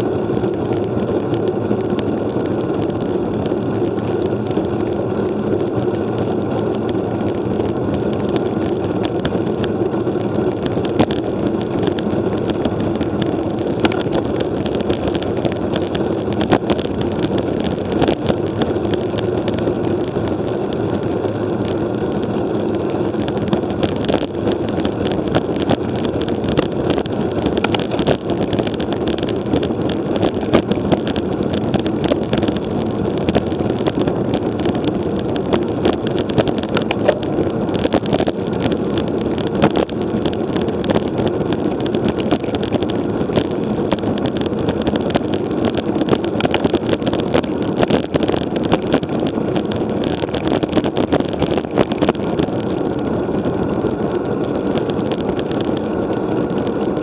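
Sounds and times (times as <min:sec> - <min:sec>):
road noise: 0:00.0 - 0:57.0
wind rushing over microphone: 0:00.0 - 0:57.0
small clicks and rattles: 0:00.3 - 0:57.0.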